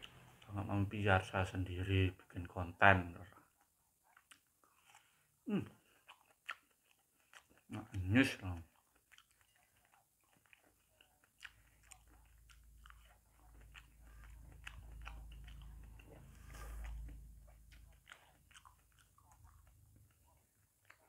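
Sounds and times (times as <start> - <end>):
man chewing wet fruit: 0.0 - 2.4, 3.0 - 21.0.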